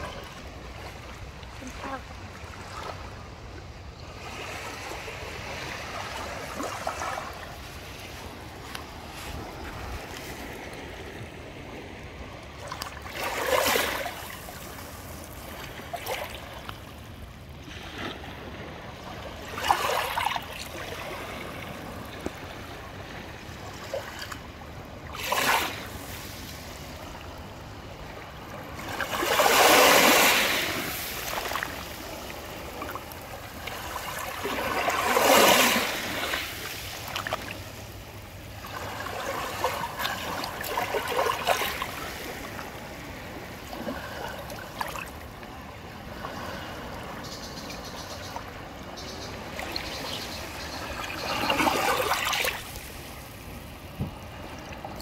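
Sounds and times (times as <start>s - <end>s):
small waves lapping and splashing: 0.0s - 55.0s.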